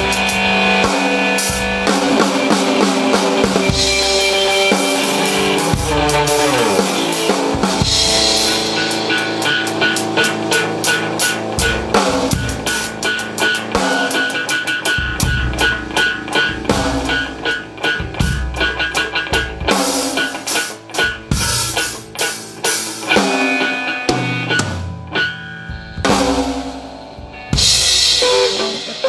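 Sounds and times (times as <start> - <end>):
drum kit playing: 0.0 - 29.0
electric guitar: 0.0 - 29.0.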